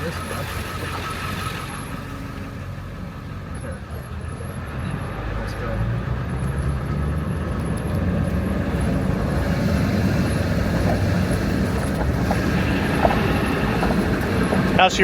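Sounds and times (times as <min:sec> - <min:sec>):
diesel truck engine driving: 0:00.0 - 0:15.0.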